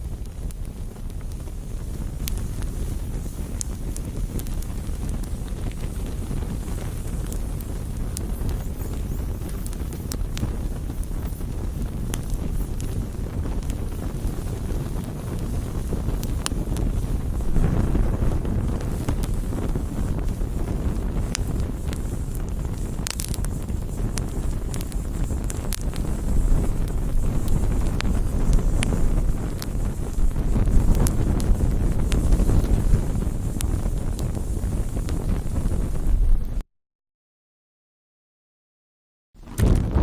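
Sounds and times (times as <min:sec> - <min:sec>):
fire low rumble: 0:00.0 - 0:36.6, 0:39.4 - 0:40.0
wood fire crackling and popping: 0:00.0 - 0:36.6, 0:39.4 - 0:40.0.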